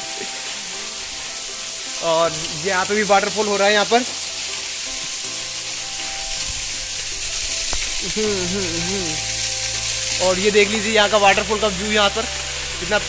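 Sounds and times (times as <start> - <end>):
soft background music: 0.0 - 13.0
waterfall hissing: 0.0 - 13.0.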